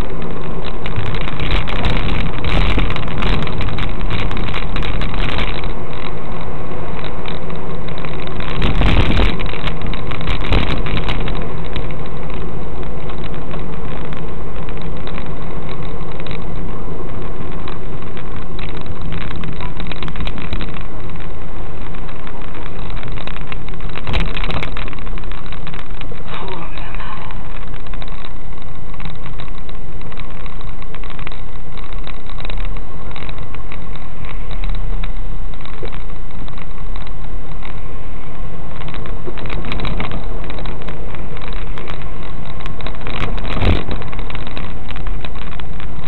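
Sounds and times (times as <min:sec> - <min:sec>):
distorted car engine rumble: 0:00.0 - 0:46.0.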